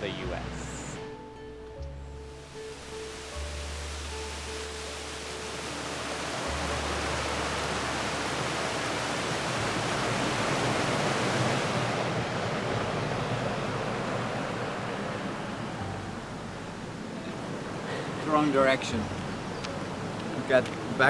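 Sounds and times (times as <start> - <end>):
waterfall rushing: 2.4 - 21.0.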